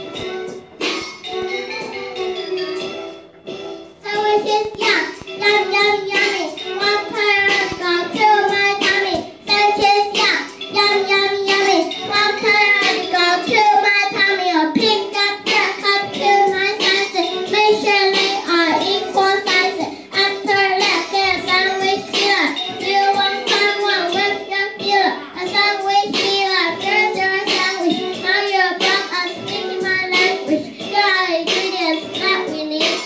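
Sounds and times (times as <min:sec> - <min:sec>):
backing music track: 0:00.0 - 0:33.0
young boy singing hip-hop: 0:04.0 - 0:33.0.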